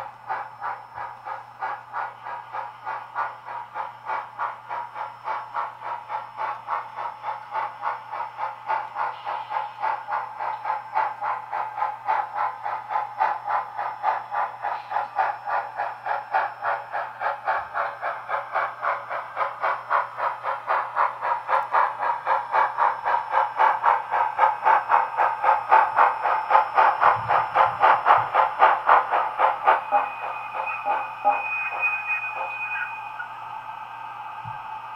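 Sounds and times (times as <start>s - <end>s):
model steam locomotive chuffing: 0.0s - 34.9s.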